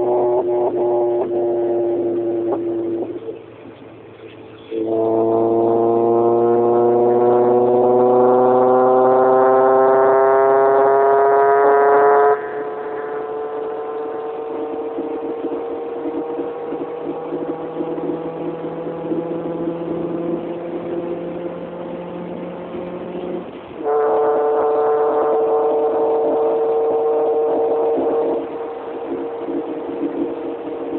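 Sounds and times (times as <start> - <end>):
loud horn-like tonal howl: 0.0 - 3.4, 4.6 - 30.9
weak buzzing tone: 0.0 - 30.9.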